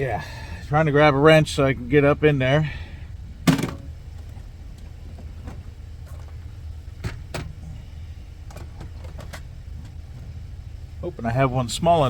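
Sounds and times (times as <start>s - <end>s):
truck idling: 0.0s - 12.0s.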